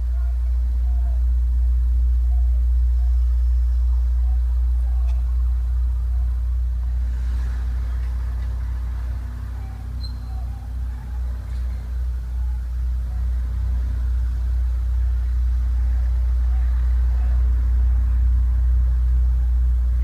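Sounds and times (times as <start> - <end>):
helicopter rumble: 0.0 - 20.0.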